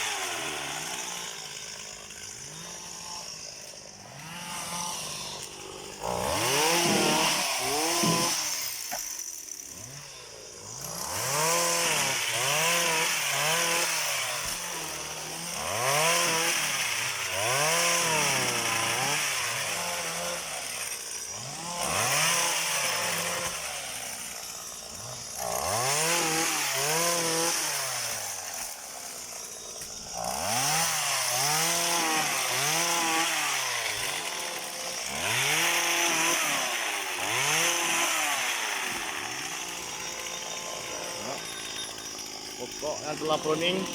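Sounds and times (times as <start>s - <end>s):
small engine revving: 0.0s - 43.9s.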